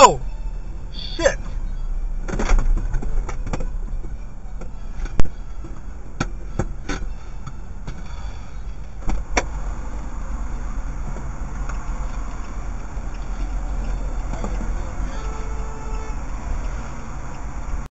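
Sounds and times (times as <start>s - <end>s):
road traffic rumble from inside car: 0.0s - 17.9s.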